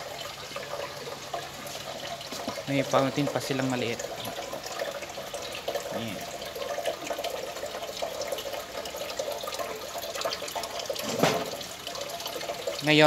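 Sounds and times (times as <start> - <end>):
fountain water trickling and splashing: 0.0 - 13.0.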